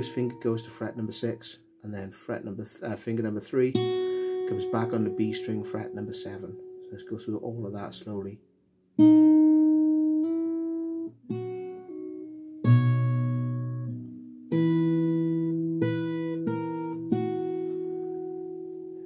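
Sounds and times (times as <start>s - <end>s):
fingerstyle acoustic guitar: 0.0s - 1.4s, 3.7s - 8.0s, 9.0s - 19.0s.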